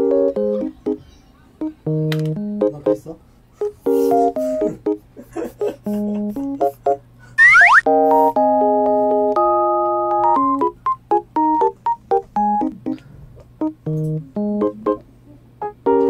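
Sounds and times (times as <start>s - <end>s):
electronic keyboard tune: 0.0s - 1.0s, 1.6s - 5.0s, 5.9s - 13.0s, 13.6s - 15.0s, 15.6s - 16.0s.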